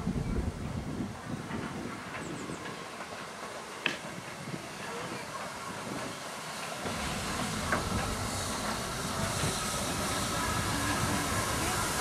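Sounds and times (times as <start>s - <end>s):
train wheels rumbling on rails: 0.0s - 12.0s
steam hissing: 0.9s - 12.0s.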